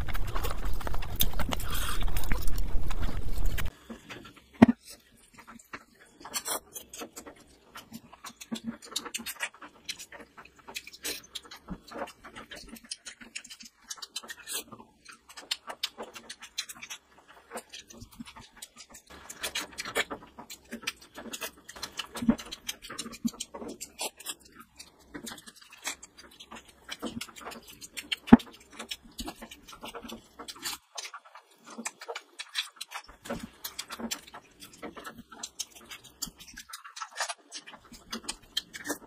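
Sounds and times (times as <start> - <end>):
chewing and lip smacking: 0.0 - 39.0.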